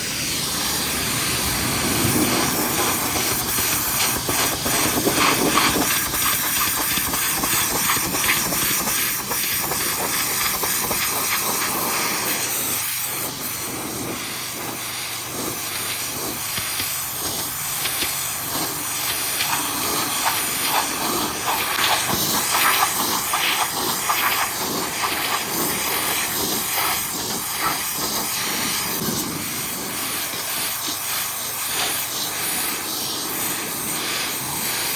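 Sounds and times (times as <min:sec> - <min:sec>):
pressure washer jet hissing: 0:00.0 - 0:34.9
spray spattering on metal: 0:00.0 - 0:34.9.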